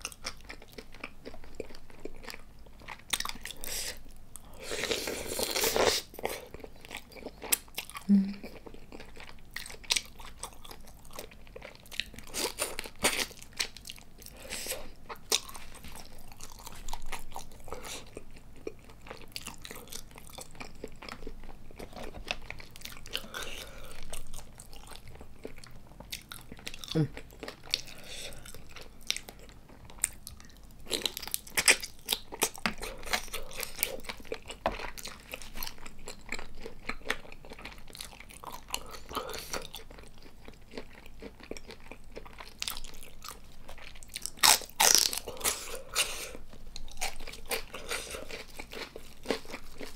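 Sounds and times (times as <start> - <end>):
chewing and wet mouth sounds: 0.0 - 49.9.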